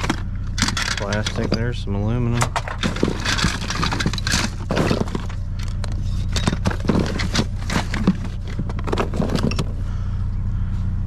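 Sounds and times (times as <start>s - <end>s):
rummaging through small toys: 0.0s - 9.8s
low hum: 0.0s - 11.0s.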